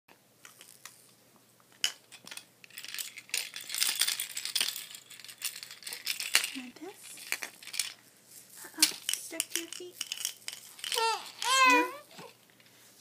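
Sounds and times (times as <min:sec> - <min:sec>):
plastic toys clicking and rattling: 0:00.4 - 0:01.1, 0:01.7 - 0:12.3.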